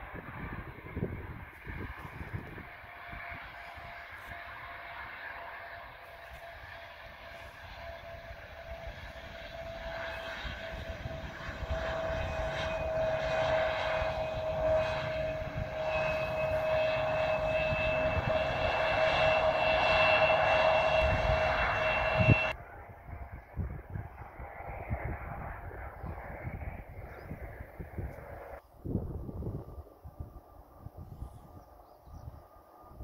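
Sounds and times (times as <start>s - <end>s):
jet engines whining: 0.0s - 28.6s
higher engine whine: 0.0s - 31.6s.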